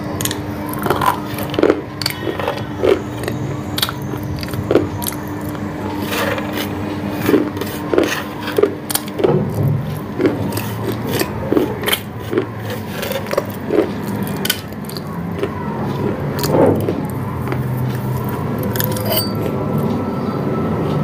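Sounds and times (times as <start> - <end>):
crunching hard food: 0.0 - 20.0
steady low hum: 0.0 - 21.0.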